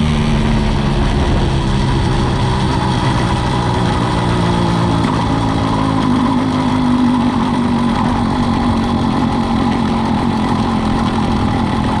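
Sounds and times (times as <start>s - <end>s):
two-stroke bicycle engine running: 0.0s - 12.0s.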